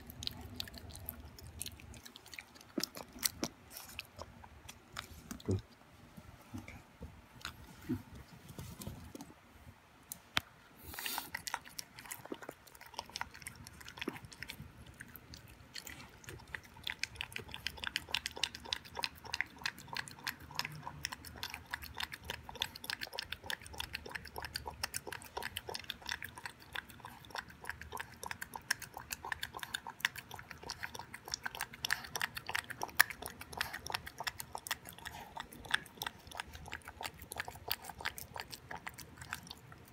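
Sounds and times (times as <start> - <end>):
puppy chewing wetly: 0.0 - 5.9, 10.1 - 39.9.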